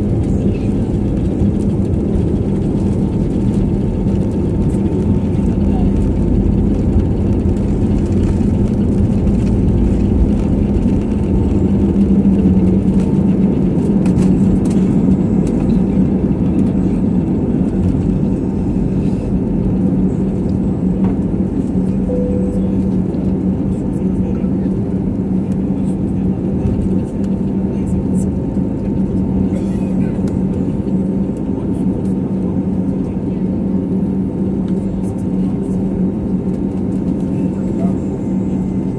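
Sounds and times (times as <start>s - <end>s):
jet engines drone from cabin: 0.0s - 38.9s.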